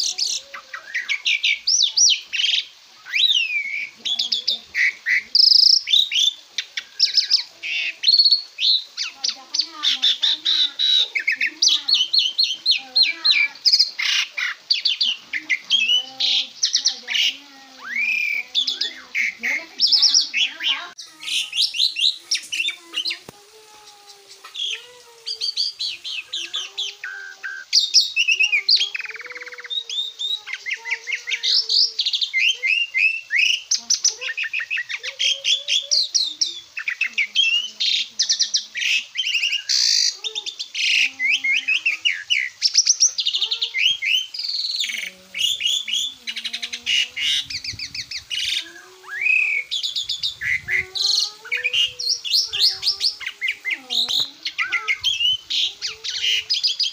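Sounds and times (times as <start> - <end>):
starling singing chattering song: 0.0 - 56.9.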